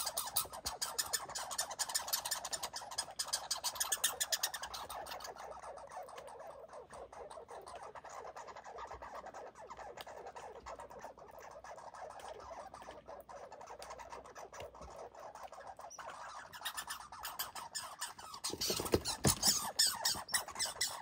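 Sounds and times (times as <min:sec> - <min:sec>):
faint steady rustle: 0:00.0 - 0:21.0
squirrel chattering: 0:00.0 - 0:21.0.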